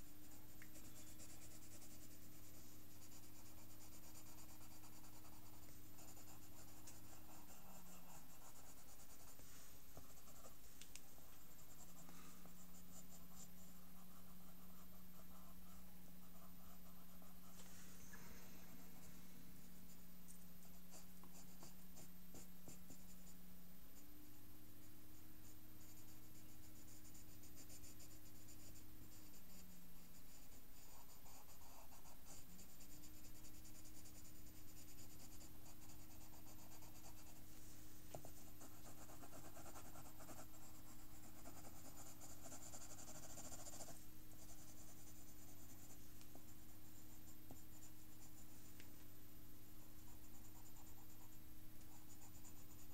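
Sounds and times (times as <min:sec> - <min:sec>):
faint low hum: 0:00.0 - 0:52.9
pencil scratching on paper: 0:00.2 - 0:17.6, 0:20.6 - 0:23.3, 0:25.4 - 0:37.5, 0:38.1 - 0:48.4, 0:50.0 - 0:52.9.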